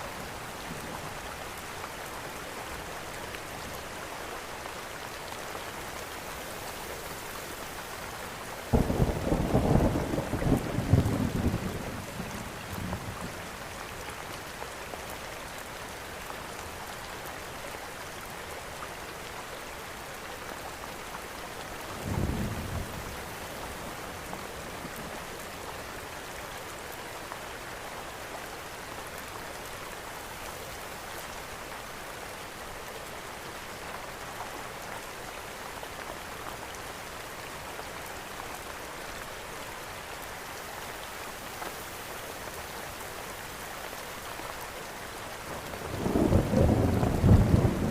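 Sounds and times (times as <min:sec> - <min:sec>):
steady rain hissing: 0:00.0 - 0:47.9.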